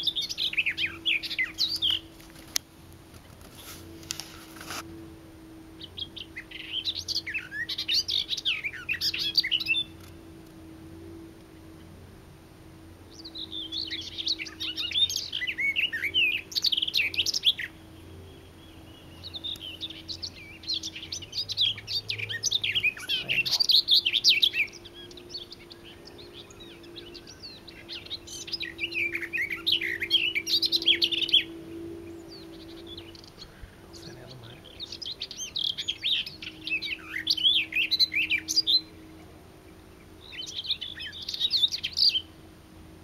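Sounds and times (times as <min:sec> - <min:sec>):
warbler singing: 0:00.0 - 0:43.0.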